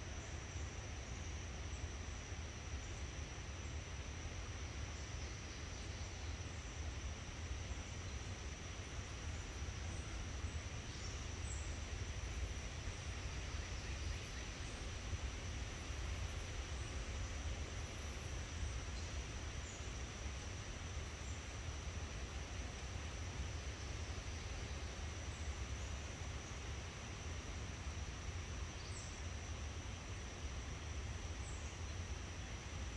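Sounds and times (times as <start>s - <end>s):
high-pitched insect trill: 0.0s - 32.9s.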